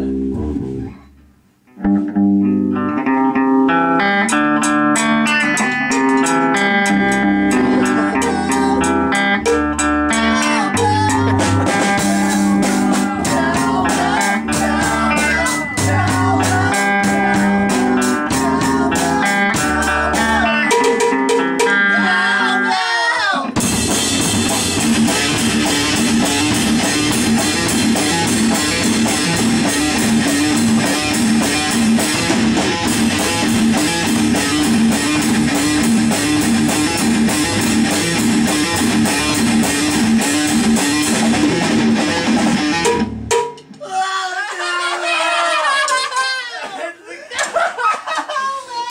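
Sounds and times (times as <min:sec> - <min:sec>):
band playing guitar bass and drums: 0:00.0 - 0:22.7, 0:23.4 - 0:43.8.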